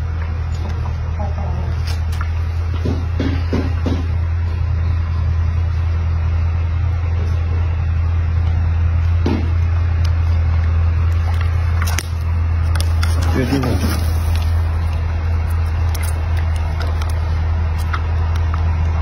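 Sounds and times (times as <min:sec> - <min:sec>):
loud low hum: 0:00.0 - 0:19.0.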